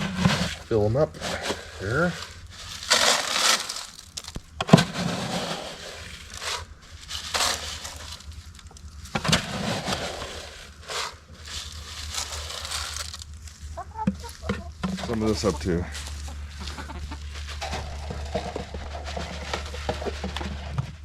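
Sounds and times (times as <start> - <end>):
chicken feed pouring and rattling: 0.0 - 21.0.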